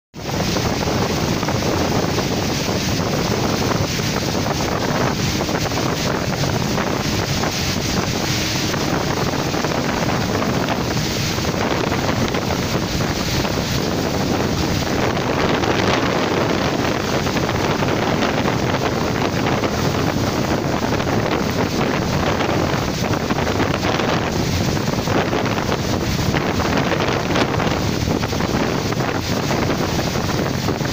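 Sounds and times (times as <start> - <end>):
heavy rain: 0.2 - 30.9
wind buffeting microphone: 0.2 - 30.9.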